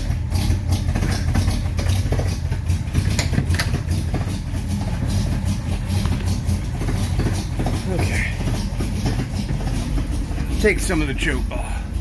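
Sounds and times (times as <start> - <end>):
truck engine running roughly: 0.0 - 12.0.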